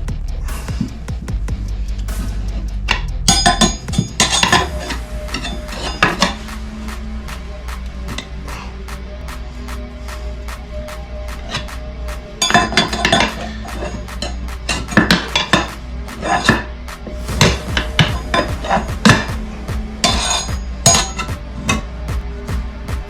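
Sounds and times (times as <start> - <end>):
background music with steady beat: 0.0 - 23.0.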